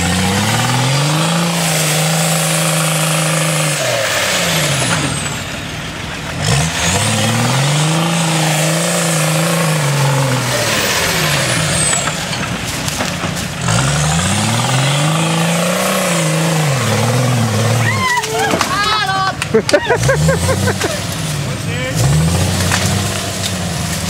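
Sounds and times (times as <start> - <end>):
diesel engine under heavy load: 0.0 - 24.0.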